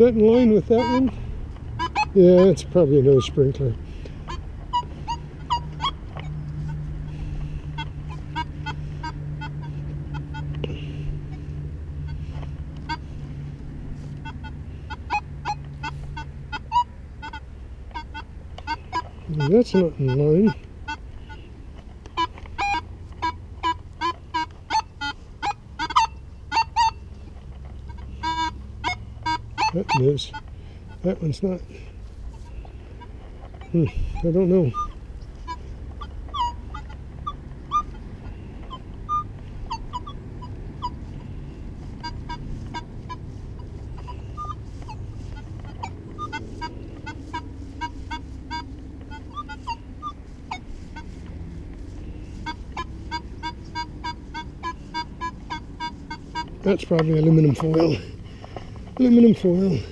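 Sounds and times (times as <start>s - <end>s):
metal detector beeps: 0.0s - 13.4s, 14.0s - 31.6s, 32.3s - 59.9s
low steady rumble: 0.0s - 59.9s.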